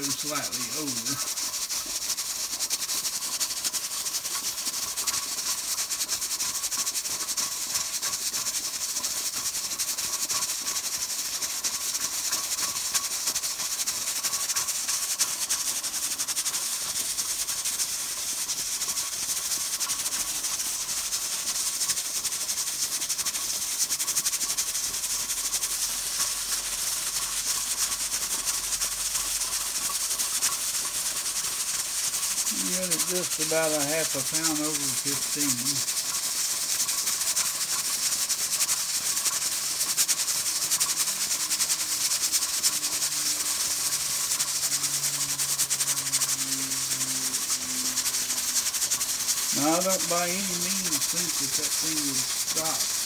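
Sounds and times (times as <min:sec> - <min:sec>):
pressure cooker weight rattling: 0:00.0 - 0:17.5, 0:18.2 - 0:47.1, 0:47.7 - 0:53.0
steam hissing: 0:00.0 - 0:53.0.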